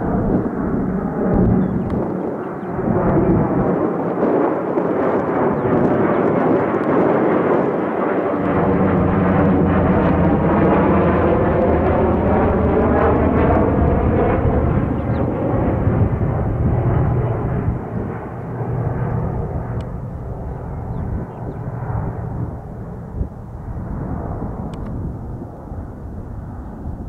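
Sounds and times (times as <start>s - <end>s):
aircraft engine passing: 0.0s - 27.0s.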